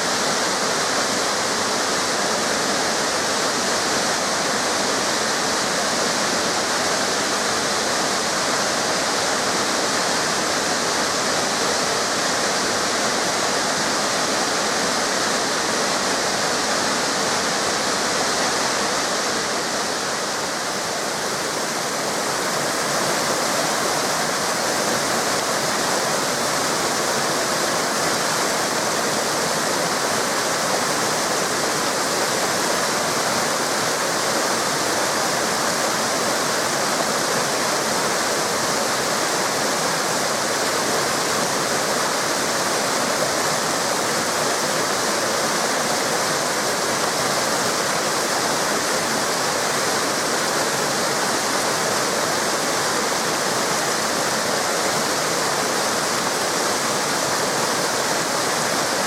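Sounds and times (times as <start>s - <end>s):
river cascades rushing: 0.0s - 59.0s.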